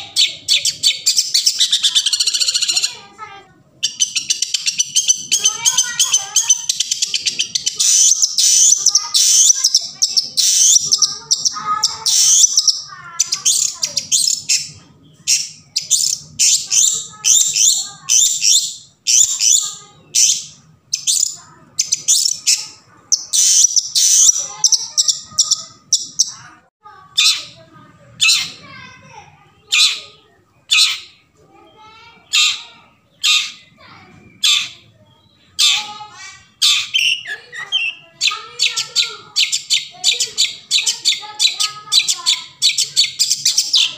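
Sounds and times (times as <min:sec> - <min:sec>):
bird singing fast chirps: 0:00.0 - 0:03.0, 0:03.8 - 0:26.4, 0:32.2 - 0:43.9.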